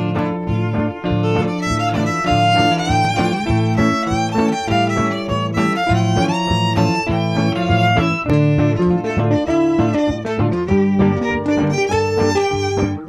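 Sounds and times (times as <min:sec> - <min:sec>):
violin melody: 0:00.0 - 0:13.0.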